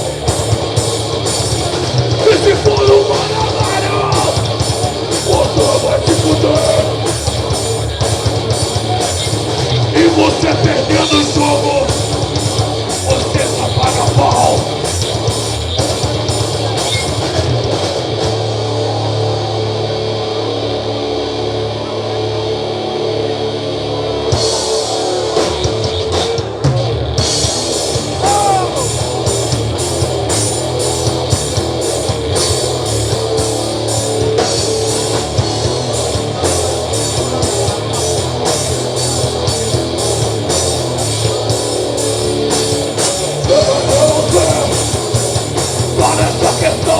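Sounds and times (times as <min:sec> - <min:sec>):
drum kit: 0:00.0 - 0:21.0, 0:24.0 - 0:46.9
electric guitar: 0:00.0 - 0:46.9.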